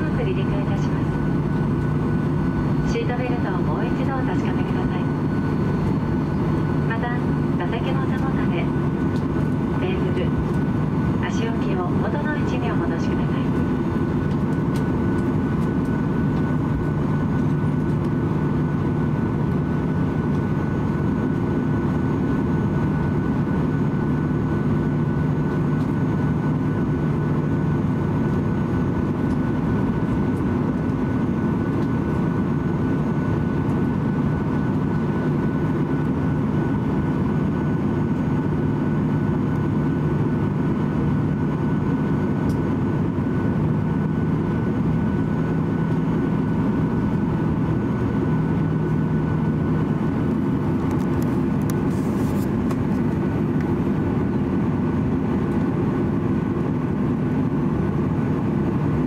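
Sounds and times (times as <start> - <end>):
cabin air noise: 0.0 - 59.0
jet engines at low power: 0.0 - 59.0.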